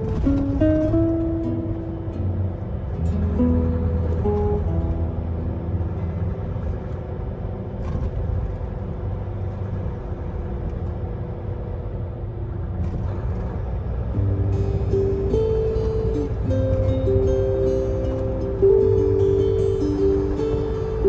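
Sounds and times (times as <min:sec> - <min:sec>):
truck engine and tyre rumble: 0:00.0 - 0:21.0.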